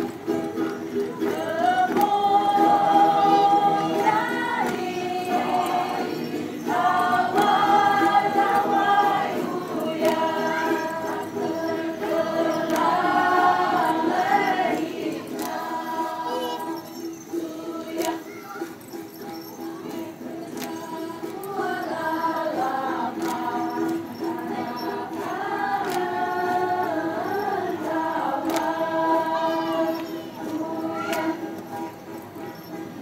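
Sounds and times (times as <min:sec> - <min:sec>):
group of voices singing: 0:00.0 - 0:33.0.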